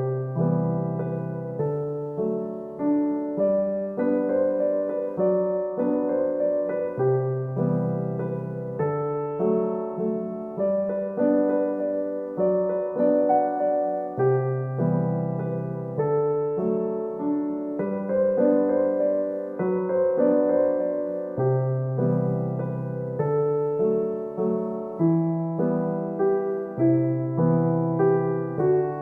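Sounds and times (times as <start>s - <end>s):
gentle slow piano piece: 0.0s - 29.0s.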